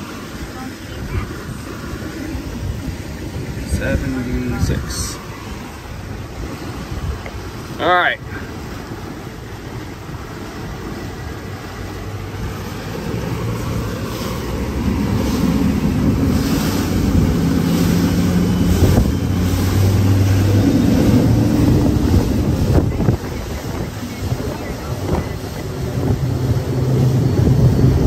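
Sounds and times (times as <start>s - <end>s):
water rushing along boat hull: 0.0s - 28.0s
wind buffeting microphone: 0.0s - 28.0s.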